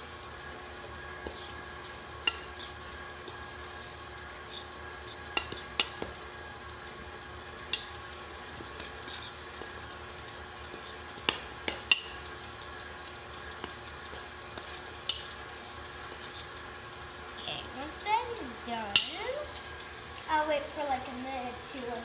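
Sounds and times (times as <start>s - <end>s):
electric mixer whirring: 0.0s - 22.0s.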